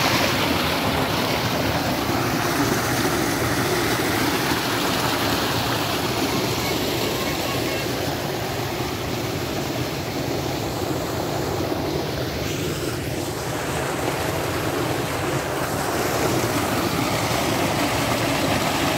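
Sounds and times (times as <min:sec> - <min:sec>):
water gushing into a tank: 0:00.0 - 0:18.9.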